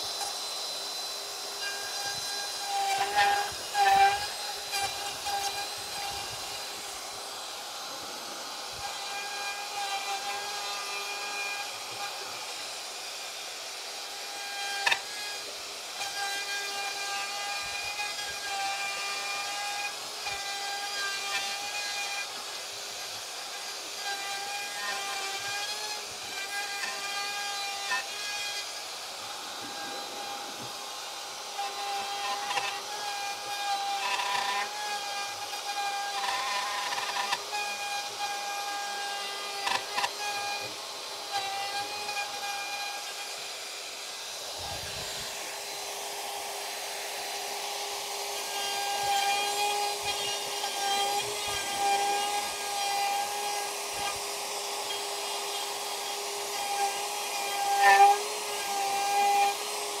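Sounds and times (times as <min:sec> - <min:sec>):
power tool whining: 0:00.0 - 1:00.0.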